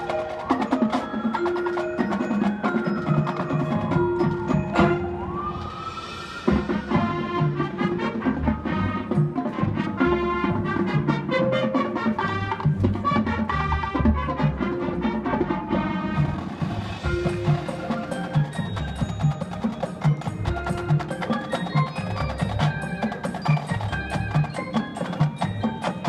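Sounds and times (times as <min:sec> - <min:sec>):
rhythmic percussion: 0:00.0 - 0:26.0
brass band playing: 0:03.3 - 0:26.0.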